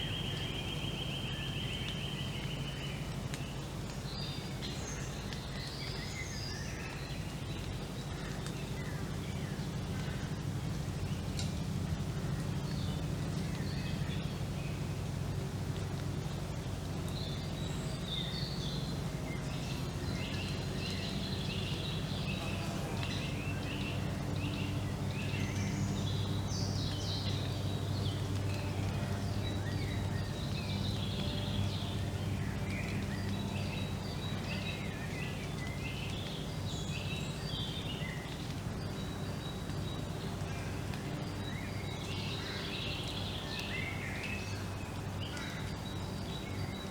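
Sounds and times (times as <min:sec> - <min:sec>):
low background hum: 0:00.0 - 0:46.9
songbirds chirping and singing: 0:00.0 - 0:46.9.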